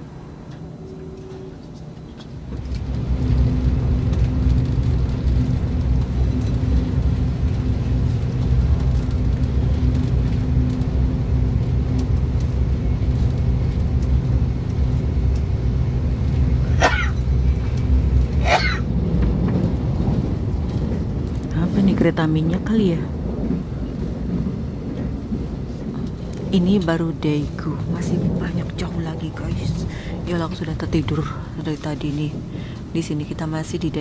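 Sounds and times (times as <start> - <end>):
train cabin rumble: 0.0 - 34.0.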